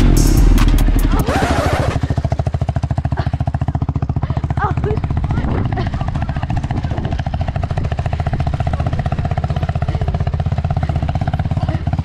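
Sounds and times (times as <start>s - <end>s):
single-cylinder engine puttering: 0.0s - 12.0s.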